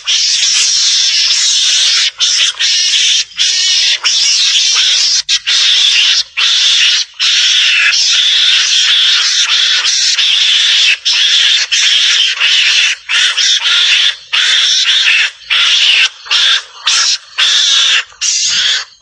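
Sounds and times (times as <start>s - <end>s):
harsh raspy mongoose calls: 0.0s - 19.0s.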